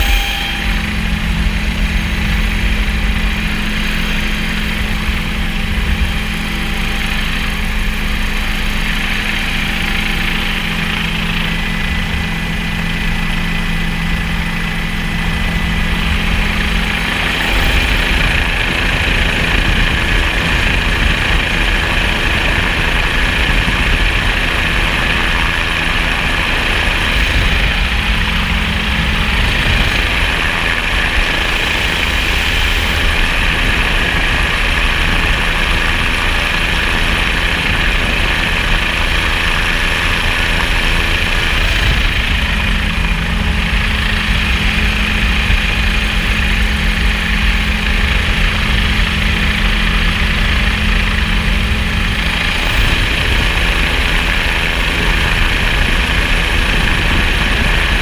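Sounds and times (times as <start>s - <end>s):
engine running with hiss: 0.0s - 58.0s.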